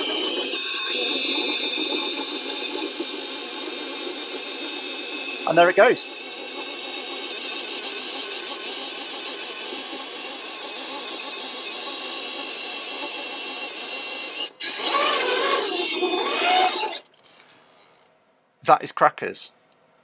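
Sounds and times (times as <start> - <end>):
electric motor and gearbox whining: 0.0 - 18.0.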